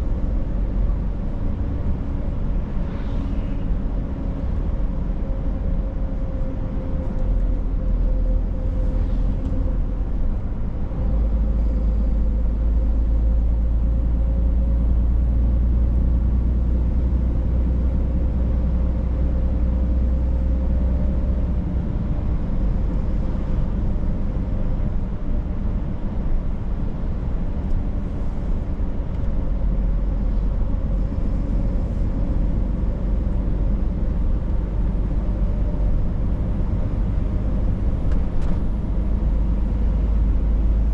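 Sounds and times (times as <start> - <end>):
road noise: 0.0 - 40.9
truck engine drone: 0.0 - 40.9.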